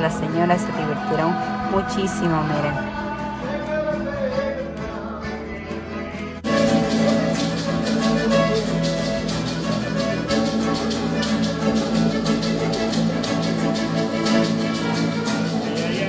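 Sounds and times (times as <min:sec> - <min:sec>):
accordion: 0:00.0 - 0:16.0
strummed acoustic guitar: 0:00.0 - 0:16.0.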